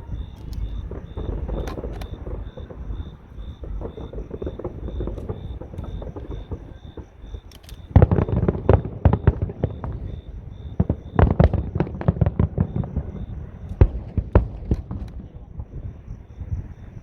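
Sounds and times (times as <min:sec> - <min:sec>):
fireworks banging: 0:00.0 - 0:16.8.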